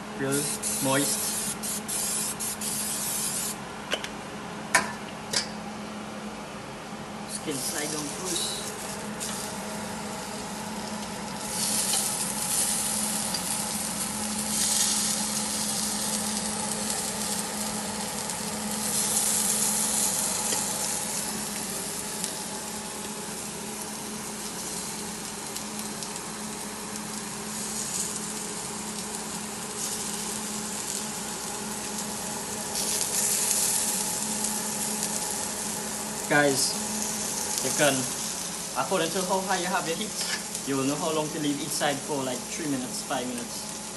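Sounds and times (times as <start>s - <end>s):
steady low hum: 0.0s - 43.9s
fish sizzling in a grill pan: 7.5s - 43.9s.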